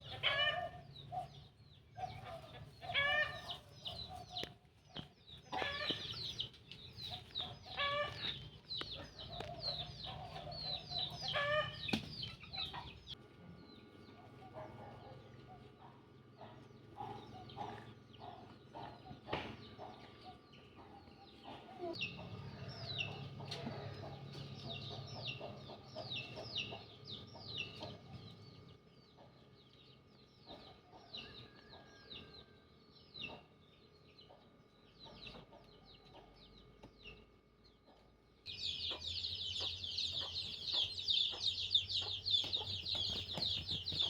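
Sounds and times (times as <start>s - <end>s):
chickens clucking: 0.0s - 32.5s, 33.1s - 44.0s.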